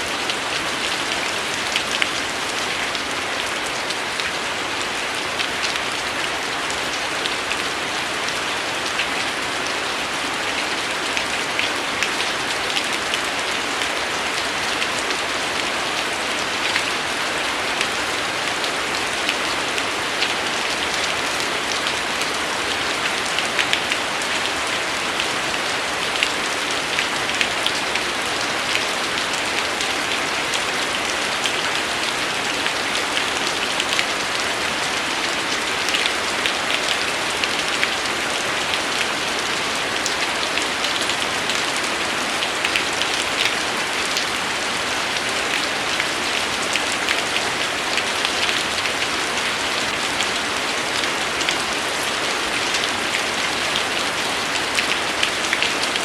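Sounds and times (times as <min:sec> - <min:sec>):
steady rainfall: 0:00.0 - 0:56.0
raindrops splattering on a surface: 0:10.6 - 0:56.0.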